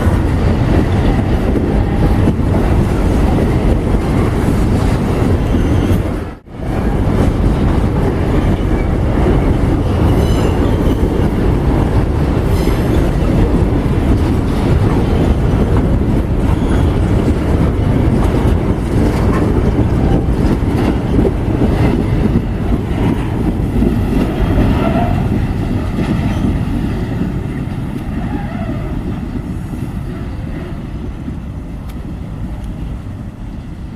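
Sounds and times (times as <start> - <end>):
freight train rumbling past: 0.0 - 33.9.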